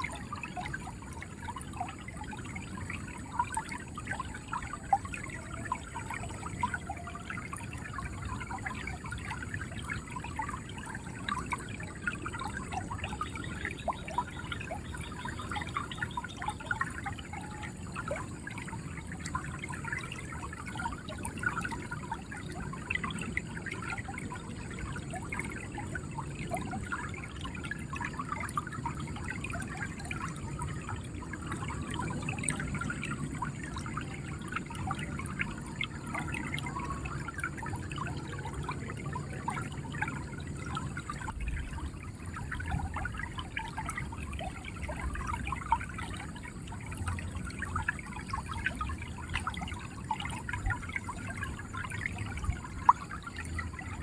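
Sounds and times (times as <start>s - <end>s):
river water flowing and gurgling: 0.0s - 54.0s.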